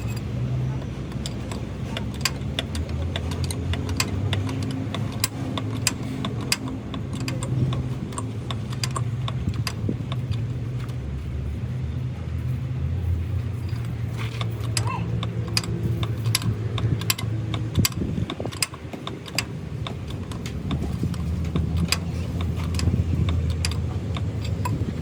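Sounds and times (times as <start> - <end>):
engine running steadily: 0.0 - 25.0
sharp metallic clicks: 0.0 - 25.0.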